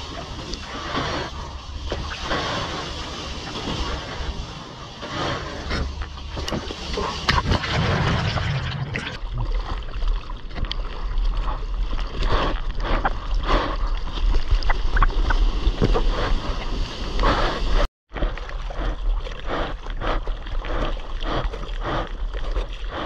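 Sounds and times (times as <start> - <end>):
seawater sloshing and splashing: 0.0 - 23.0.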